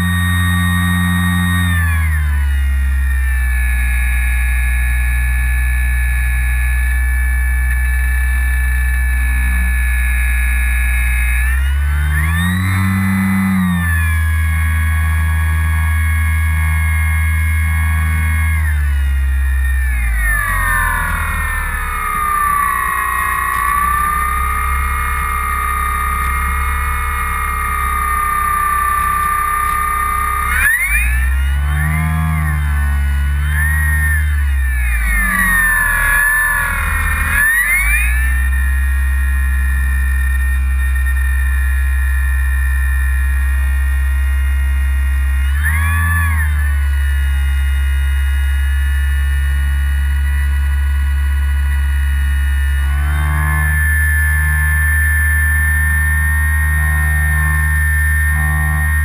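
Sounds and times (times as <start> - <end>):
electric motor and propeller whine: 0.0 - 59.0.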